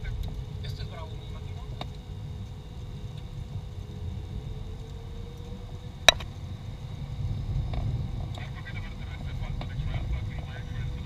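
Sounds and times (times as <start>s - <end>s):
jet cockpit rumble: 0.0s - 11.0s.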